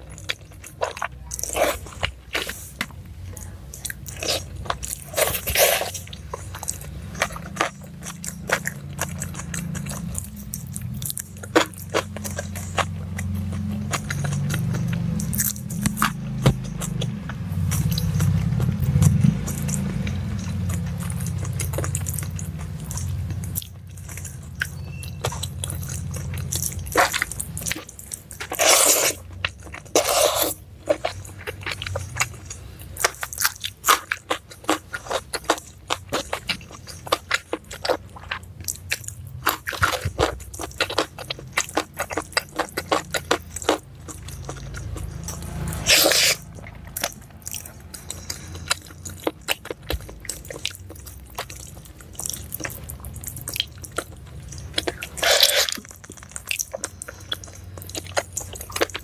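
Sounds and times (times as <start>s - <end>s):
crunchy chewing: 0.0s - 59.0s
wet mouth clicks: 3.8s - 33.4s, 34.0s - 59.0s.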